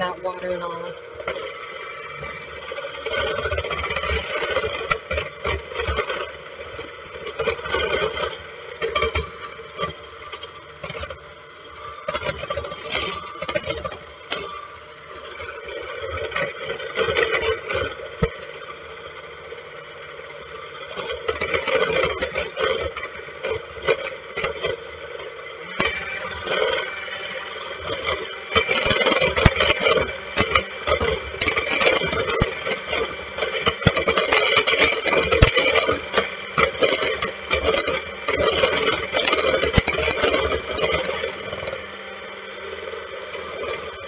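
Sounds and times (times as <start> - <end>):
electric hand mixer motor hum: 0.0 - 44.0.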